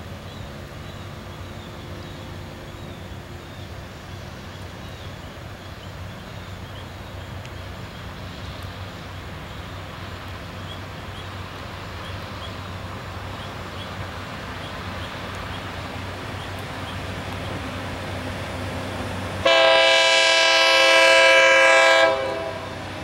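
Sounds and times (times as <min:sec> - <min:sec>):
diesel engine drone: 0:00.0 - 0:23.0
birds chirping: 0:00.2 - 0:19.2.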